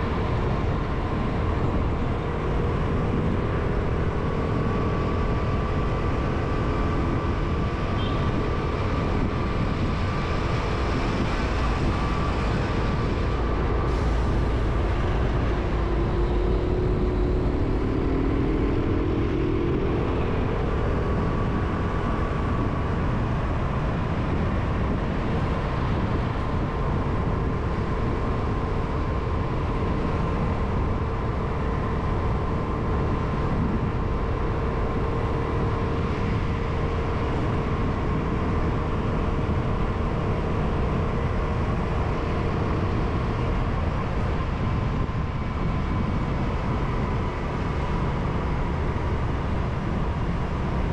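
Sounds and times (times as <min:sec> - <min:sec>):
vehicle road noise: 0:00.0 - 0:50.9.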